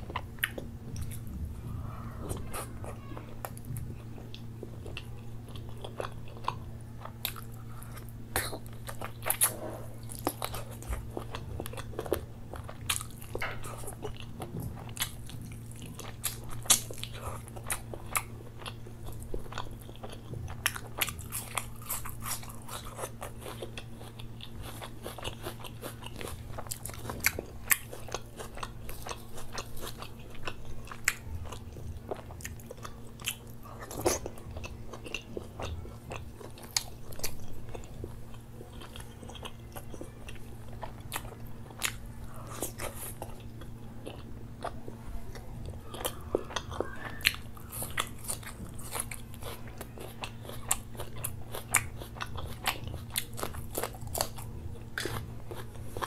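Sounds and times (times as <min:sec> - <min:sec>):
person chewing: 0:00.0 - 0:56.0
steady low hum: 0:00.0 - 0:56.0.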